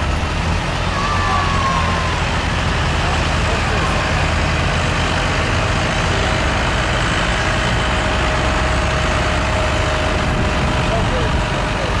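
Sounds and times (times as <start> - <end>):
tractor diesel engine running hard: 0.0 - 12.0.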